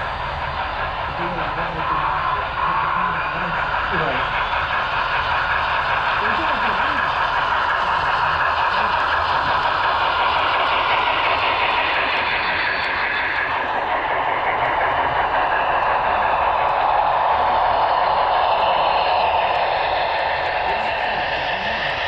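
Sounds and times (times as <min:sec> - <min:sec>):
model train whirring on track: 0:00.0 - 0:22.0.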